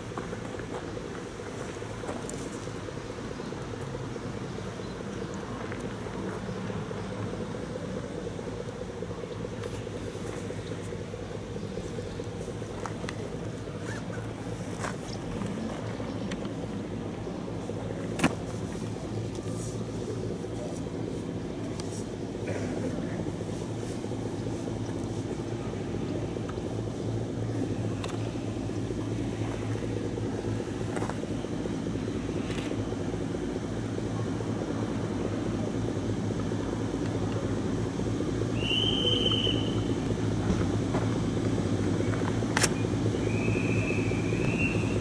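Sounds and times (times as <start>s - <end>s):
diesel railcar engine droning: 0.0s - 45.0s.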